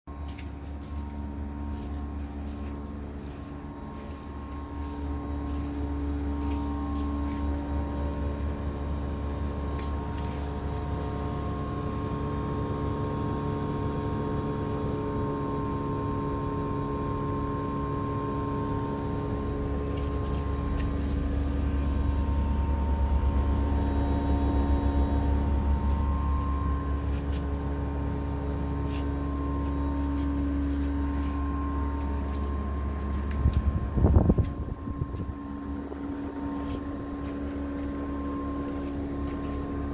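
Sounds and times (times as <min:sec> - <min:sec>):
air conditioner compressor humming: 0:00.1 - 0:39.9.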